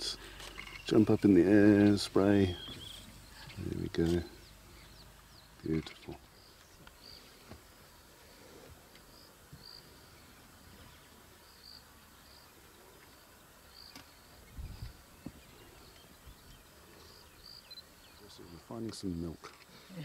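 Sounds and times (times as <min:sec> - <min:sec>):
insects chirping: 0:00.0 - 0:20.0
soft hiss: 0:00.0 - 0:20.0.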